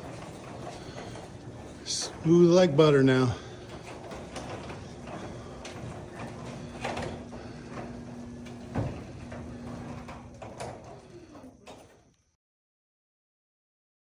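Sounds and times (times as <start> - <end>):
steady low hum: 0.0 - 11.6
garage door rolling on tracks: 0.0 - 12.2.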